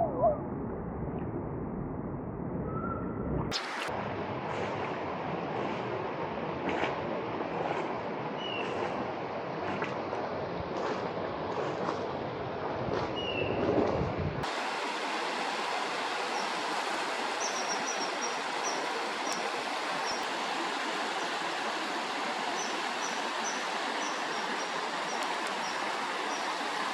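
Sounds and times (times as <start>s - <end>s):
flowing water rushing: 3.5s - 13.2s, 13.8s - 26.9s.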